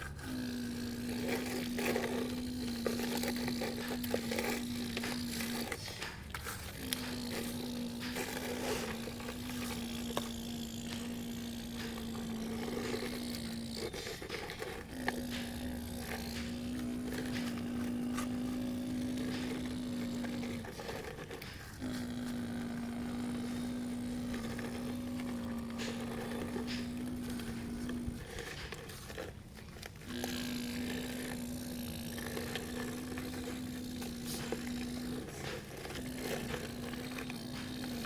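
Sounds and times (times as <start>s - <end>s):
electric motor whining: 0.0s - 38.0s.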